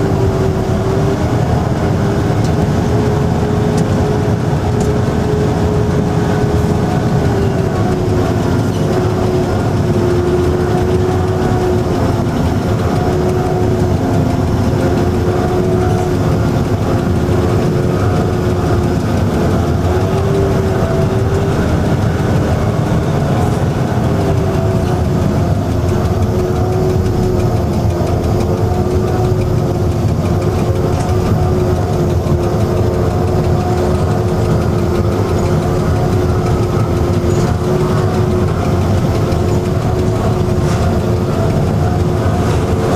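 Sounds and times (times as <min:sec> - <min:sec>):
diesel locomotive engine idling: 0:00.0 - 0:42.9.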